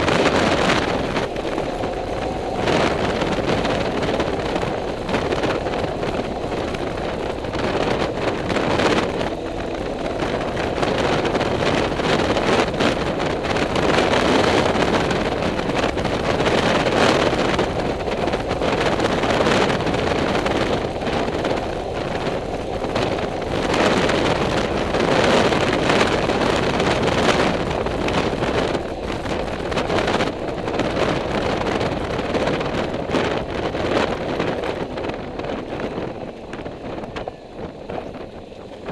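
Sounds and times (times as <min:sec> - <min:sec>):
vehicle engine and road noise: 0:00.0 - 0:38.9
wind buffeting microphone: 0:00.0 - 0:38.9.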